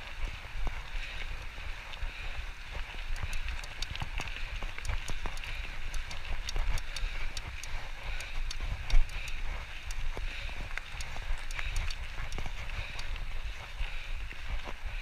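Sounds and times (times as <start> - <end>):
bike clicks and rattles: 0.0 - 15.0.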